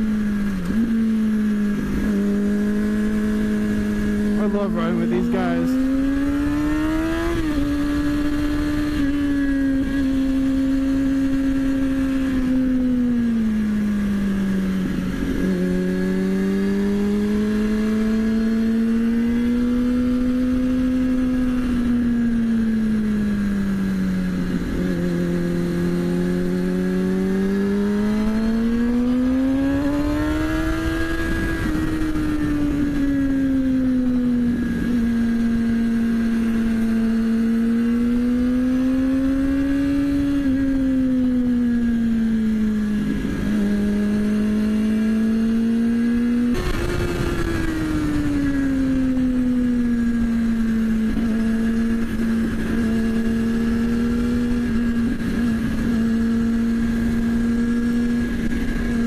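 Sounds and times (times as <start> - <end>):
motorcycle engine under way: 0.0 - 59.0.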